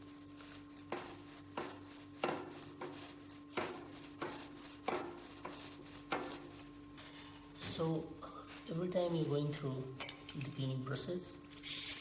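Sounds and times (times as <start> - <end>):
cloth scraping bicycle sprockets: 0.0 - 10.0, 11.5 - 12.0.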